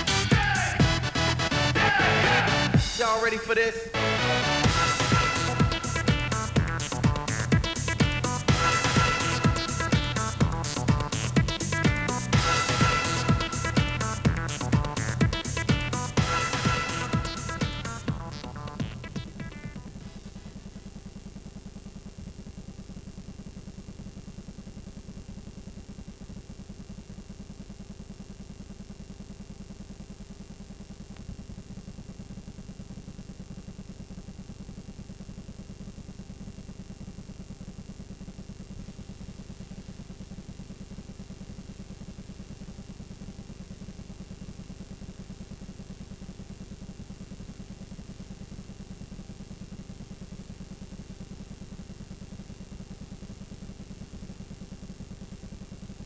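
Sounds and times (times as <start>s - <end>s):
low electrical buzz: 2.7s - 56.0s.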